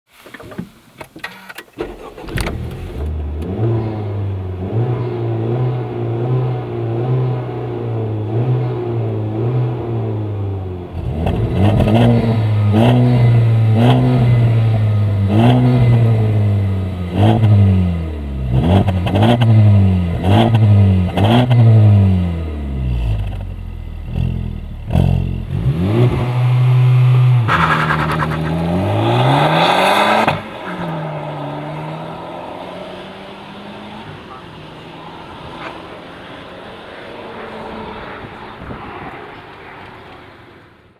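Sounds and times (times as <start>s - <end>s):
car engine idling and revving: 1.6s - 40.9s.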